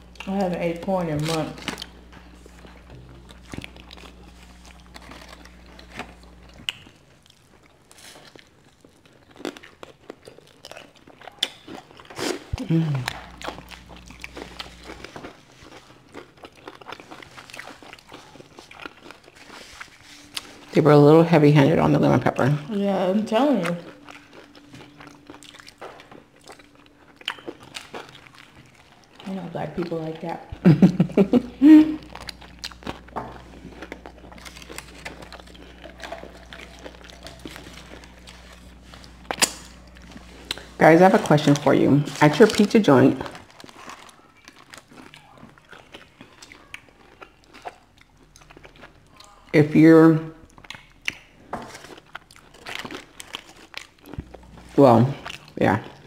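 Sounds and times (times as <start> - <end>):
chewing crispy fried food: 0.0 - 56.0.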